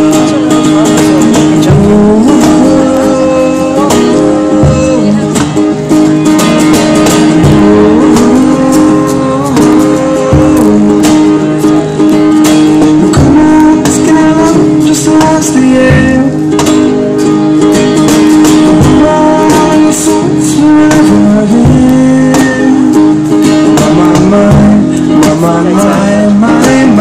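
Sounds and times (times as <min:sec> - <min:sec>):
acoustic guitars strummed: 0:00.0 - 0:27.0
young man singing: 0:00.0 - 0:27.0.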